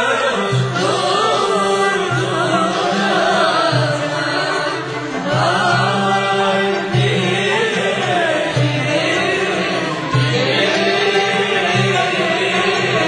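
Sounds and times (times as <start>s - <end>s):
wavering chanted vocal: 0.0s - 13.0s.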